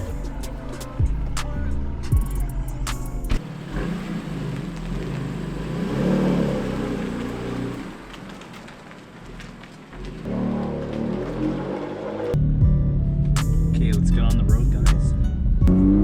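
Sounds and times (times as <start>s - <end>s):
car engine revving: 1.9s - 14.9s, 15.6s - 16.0s.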